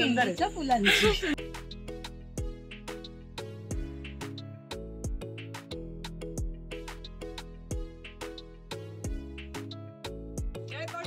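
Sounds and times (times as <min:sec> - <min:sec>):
instrumental music with beat: 0:00.8 - 0:11.0.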